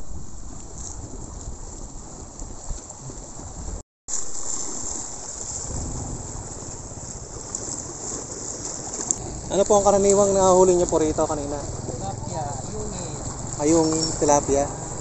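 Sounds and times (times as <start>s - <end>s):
water lapping against seawall: 0.0s - 15.0s
wind buffeting microphone: 0.0s - 15.0s.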